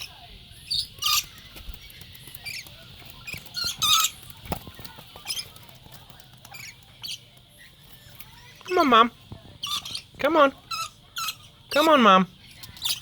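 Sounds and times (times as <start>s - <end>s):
parrots screeching and chirping: 0.0s - 13.0s.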